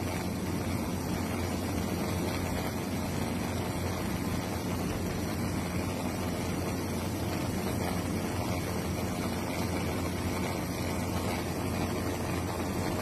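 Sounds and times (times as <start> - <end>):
aircraft cabin low hum: 0.0 - 13.0.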